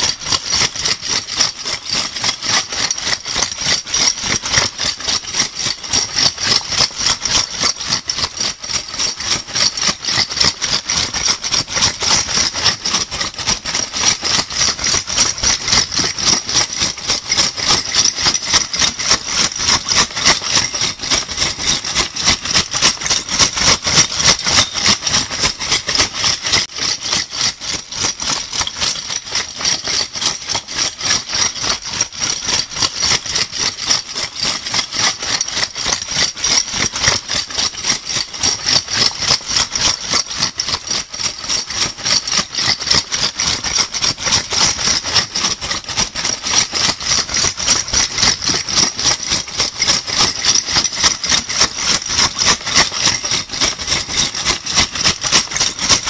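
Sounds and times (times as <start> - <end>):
bottle caps rattling in bag: 0.0 - 56.0.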